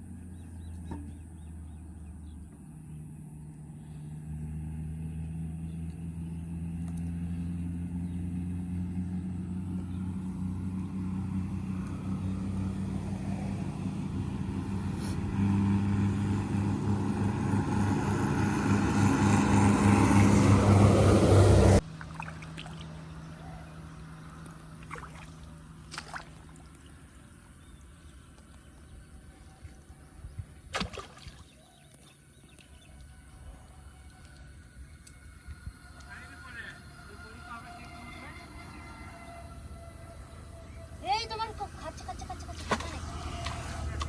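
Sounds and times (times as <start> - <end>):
engine running: 0.0 - 28.5, 34.3 - 44.0.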